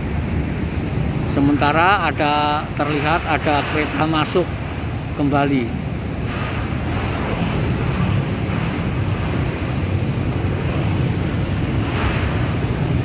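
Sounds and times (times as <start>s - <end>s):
river current rushing: 0.2s - 13.0s.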